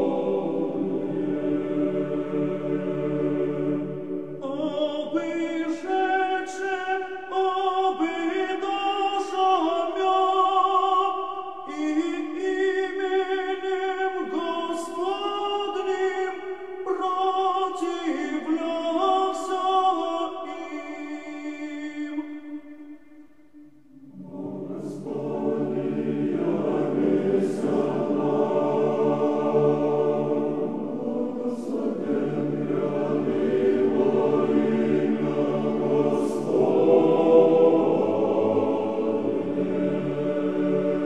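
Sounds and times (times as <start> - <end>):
choir chanting a cappella: 0.0 - 23.1, 23.9 - 41.0.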